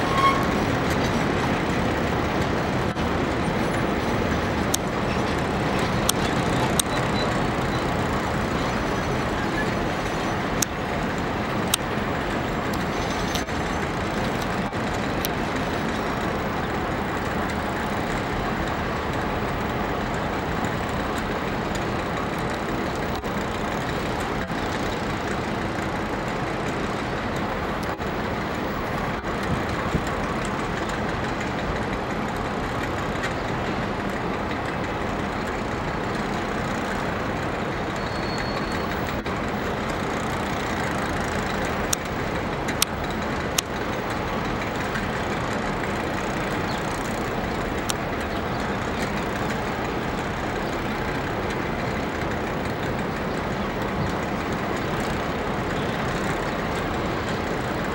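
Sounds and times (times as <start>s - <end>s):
diesel locomotive running: 0.0s - 57.9s.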